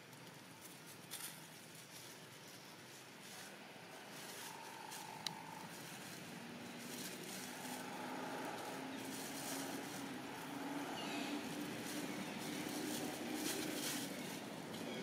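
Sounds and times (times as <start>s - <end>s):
faint engine hum: 0.0s - 15.0s
outdoor background noise: 0.0s - 15.0s.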